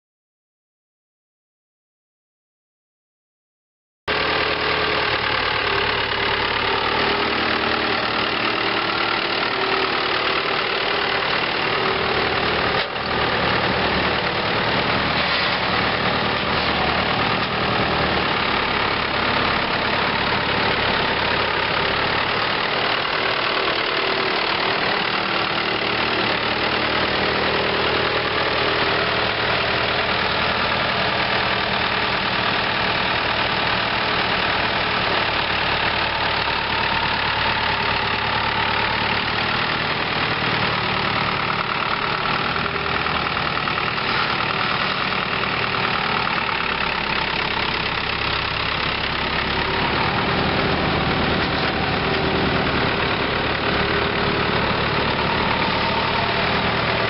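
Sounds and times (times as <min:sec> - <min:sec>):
diesel tractor idling: 0:04.1 - 0:57.0.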